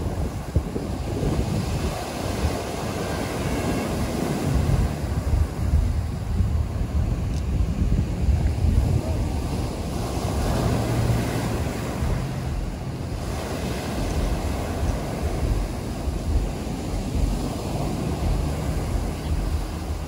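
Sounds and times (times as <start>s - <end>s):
waves breaking on pebble beach: 0.0s - 20.0s
wind rumbling on microphone: 0.0s - 20.0s.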